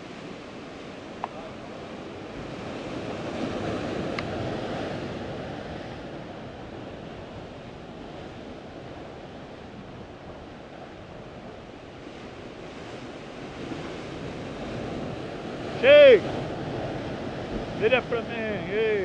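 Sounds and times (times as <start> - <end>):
surf washing against rocks: 0.0 - 19.0.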